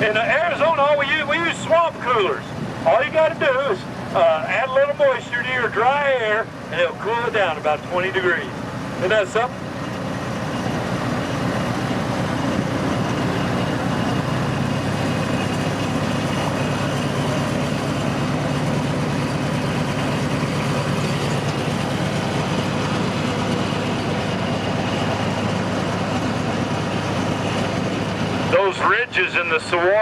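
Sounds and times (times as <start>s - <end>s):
rail rumble: 0.0s - 30.0s
train engine hum: 0.0s - 30.0s.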